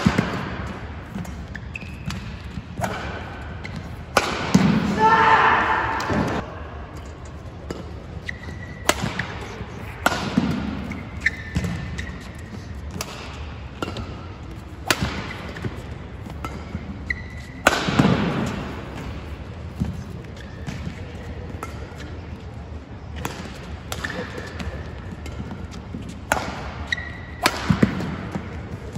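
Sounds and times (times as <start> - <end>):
court shoes squeaking: 0.0 - 4.7, 6.0 - 28.9
racket striking shuttlecock: 0.0 - 5.0, 7.0 - 20.0, 23.2 - 28.7.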